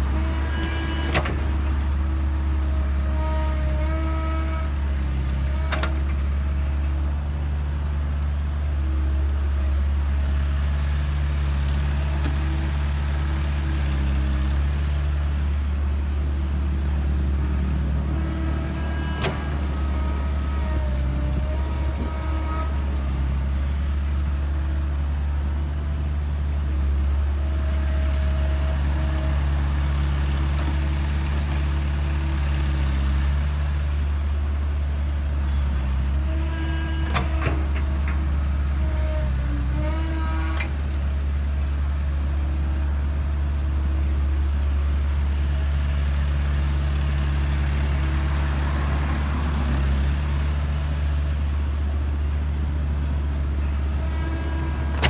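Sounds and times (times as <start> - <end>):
excavator diesel engine working: 0.0 - 55.0.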